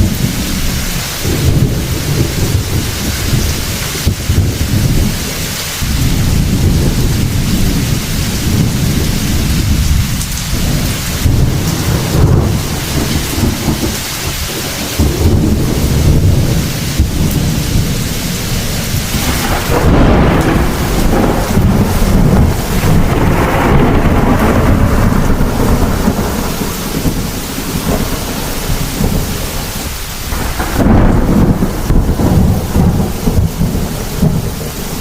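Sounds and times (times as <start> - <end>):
steady rain: 0.0 - 35.0
thunder rumbling: 0.0 - 35.0.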